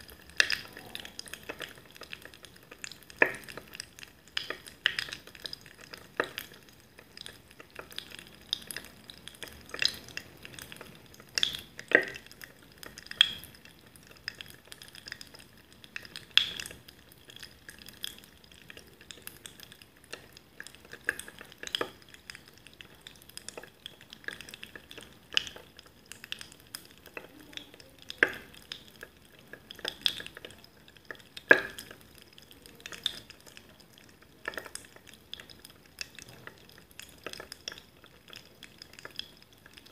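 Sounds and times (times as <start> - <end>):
carbonated liquid fizzing: 0.0 - 39.9.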